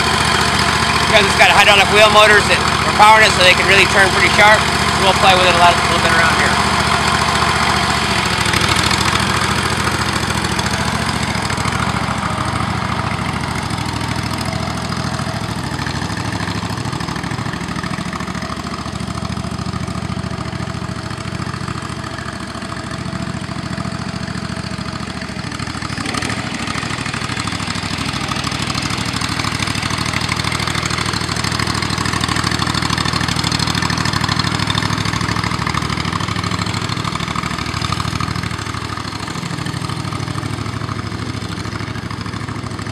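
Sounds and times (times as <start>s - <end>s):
tractor engine running steadily: 0.0s - 42.9s.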